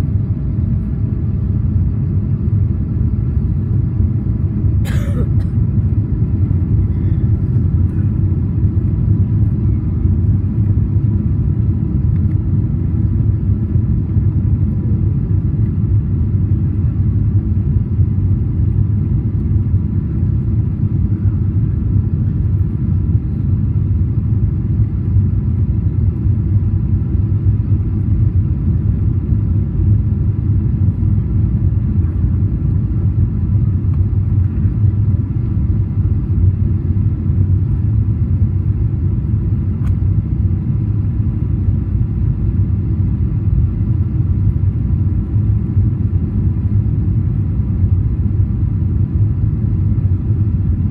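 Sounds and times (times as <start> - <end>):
airplane cabin rumble: 0.0 - 50.9
faint steady whine: 0.0 - 50.9.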